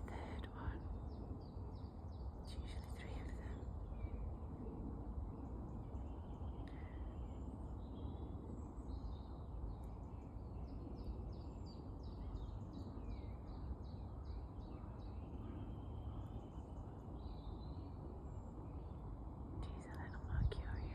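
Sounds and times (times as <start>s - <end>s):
birds singing: 0.0s - 20.9s
low background rumble: 0.0s - 20.9s.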